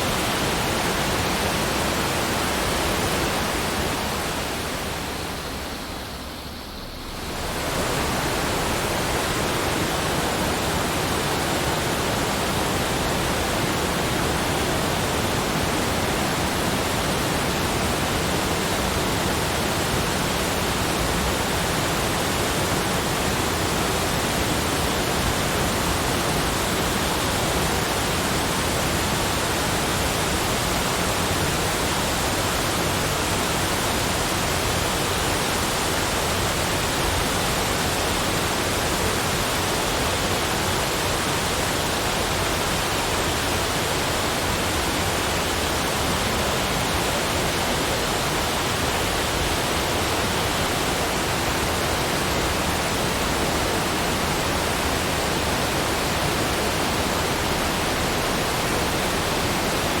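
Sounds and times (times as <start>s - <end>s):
steady rushing noise: 0.0s - 60.0s.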